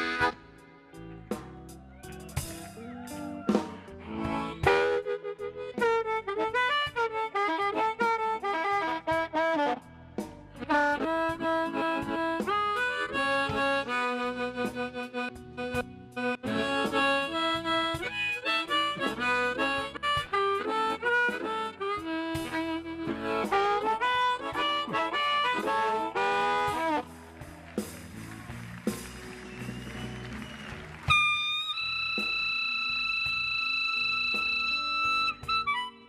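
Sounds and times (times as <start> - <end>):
blues harmonica playing: 0.0 - 36.0.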